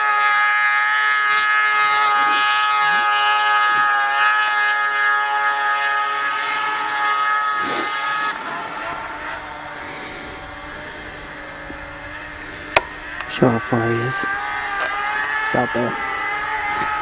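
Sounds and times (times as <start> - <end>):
snowmobile engine whine: 0.0 - 17.0.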